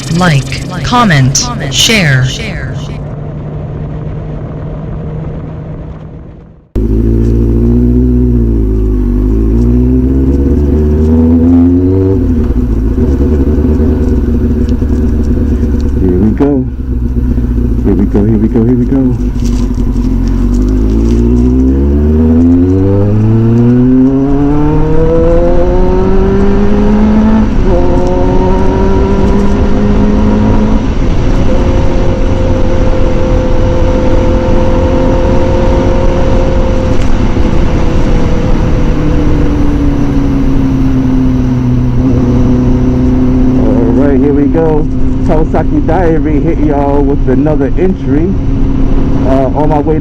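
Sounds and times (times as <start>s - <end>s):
motorcycle engine accelerating: 0.0s - 50.0s.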